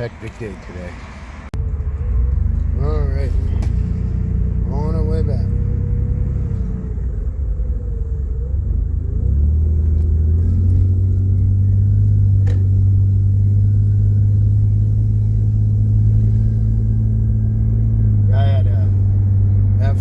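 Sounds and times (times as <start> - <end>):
road noise: 0.0 - 20.0
vehicle engine drone: 0.0 - 20.0.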